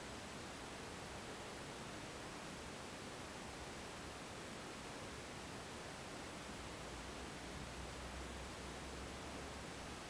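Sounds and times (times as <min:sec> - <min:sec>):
microphone self-noise hiss: 0:00.0 - 0:10.0.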